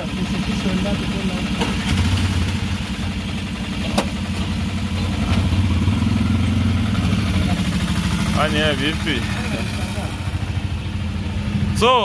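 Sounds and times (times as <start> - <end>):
auto-rickshaw engine running: 0.0 - 12.0.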